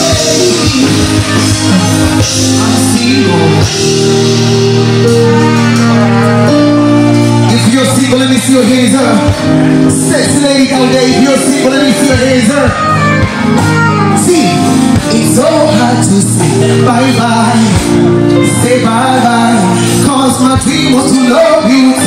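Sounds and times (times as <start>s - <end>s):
man singing: 0.0s - 5.4s, 7.5s - 22.0s
live band playing: 0.0s - 22.0s.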